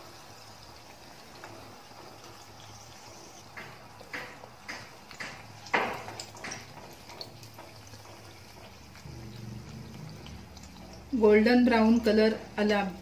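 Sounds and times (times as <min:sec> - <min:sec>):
deep-frying sizzle with pops: 0:00.0 - 0:13.0.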